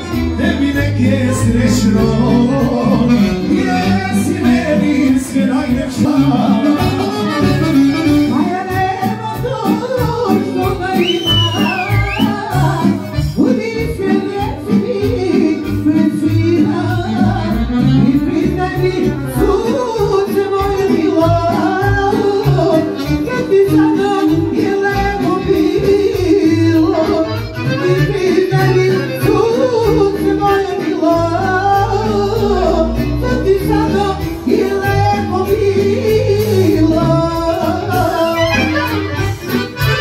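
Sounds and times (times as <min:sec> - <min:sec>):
folk band with accordion: 0:00.0 - 0:40.0.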